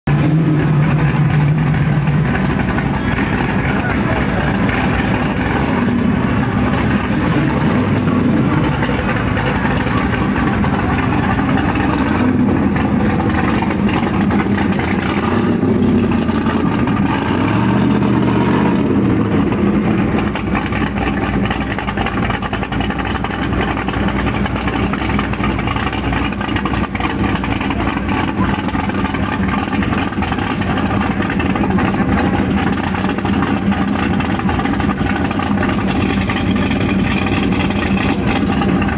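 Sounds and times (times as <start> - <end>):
choppy car engine idling: 0.0 - 38.9.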